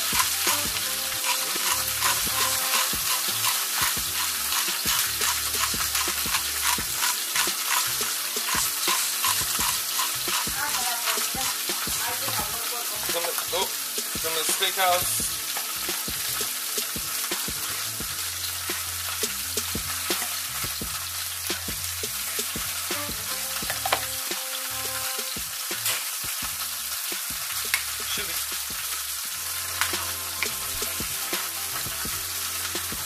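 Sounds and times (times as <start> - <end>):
chicken frying in oil: 0.0 - 33.0
seasoning shaker rattling: 0.0 - 33.0.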